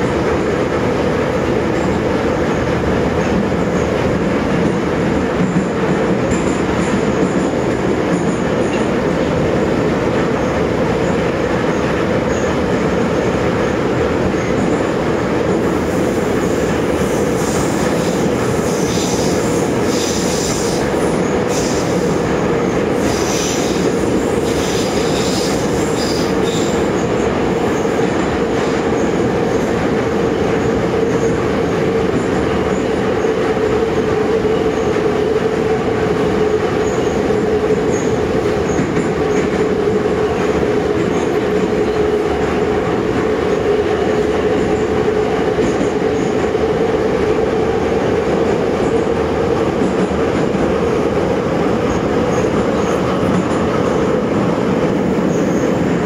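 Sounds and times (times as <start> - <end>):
metro train rumbling: 0.0 - 56.0.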